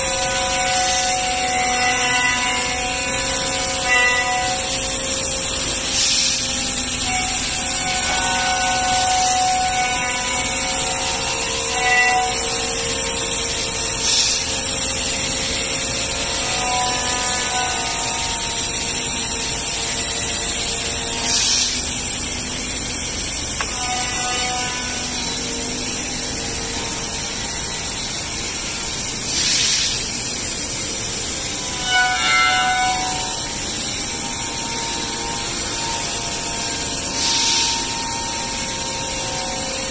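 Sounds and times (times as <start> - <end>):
cnc router cutting wood: 0.0 - 39.9
machine whining tones: 0.0 - 39.9.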